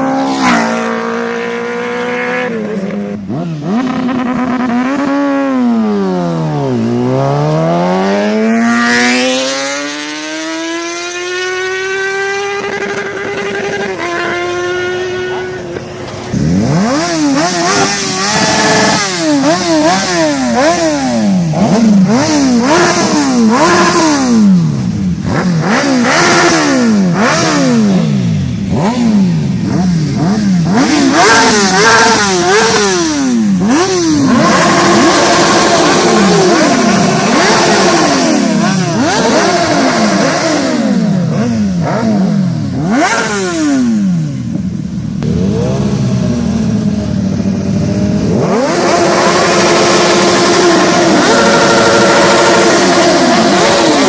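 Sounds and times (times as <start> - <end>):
motorcycle engine revving hard: 0.0 - 54.0.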